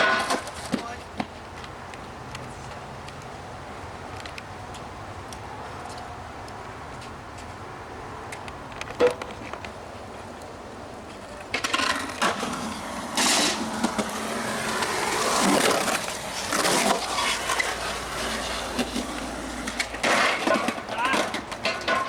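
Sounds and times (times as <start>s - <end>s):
skateboard rolling and scraping: 0.0s - 2.8s, 6.8s - 22.0s.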